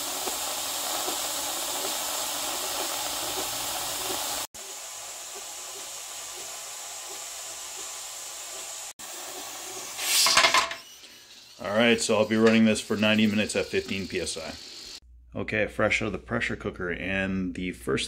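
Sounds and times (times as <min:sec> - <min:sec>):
steam hissing from vent: 0:00.0 - 0:15.0.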